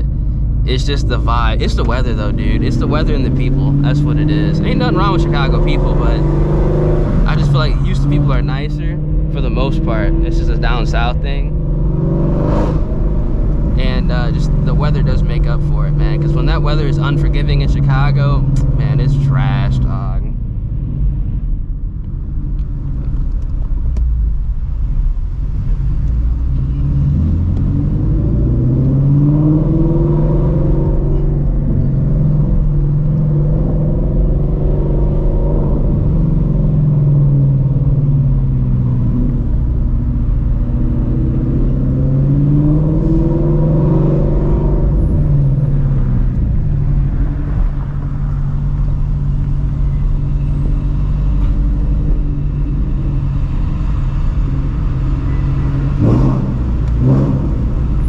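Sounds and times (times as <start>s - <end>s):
loud car engine: 0.0s - 58.0s.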